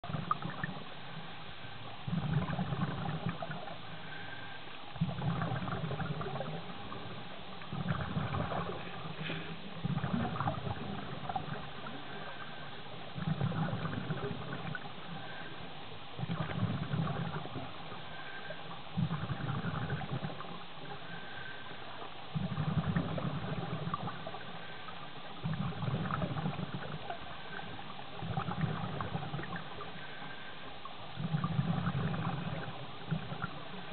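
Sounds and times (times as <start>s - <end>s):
fine crackle: 0.0s - 33.9s
underwater exhaled bubbles gurgling: 0.0s - 33.9s.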